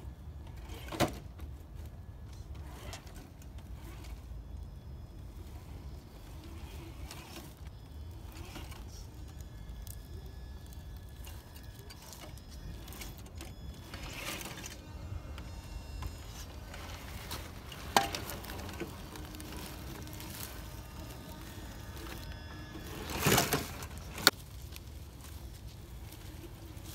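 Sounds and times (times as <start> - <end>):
tyres crackling on leaves and stone: 0.2 - 26.9
toy car motor whine: 2.5 - 26.9.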